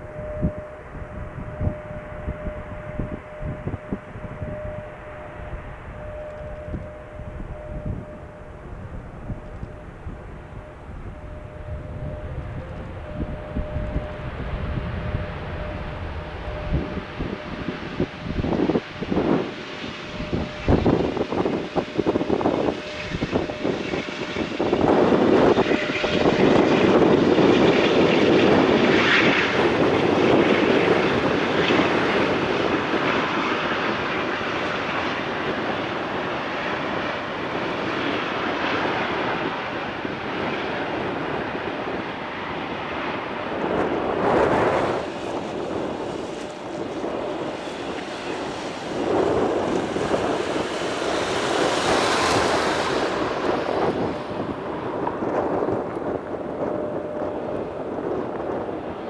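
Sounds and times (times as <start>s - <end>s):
jet engines rushing: 0.0s - 59.0s.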